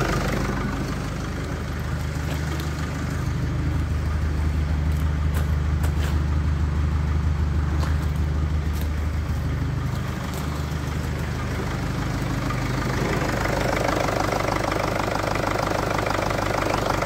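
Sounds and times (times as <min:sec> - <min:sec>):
diesel engine idling: 0:00.0 - 0:17.0
low exhaust note: 0:00.0 - 0:17.0.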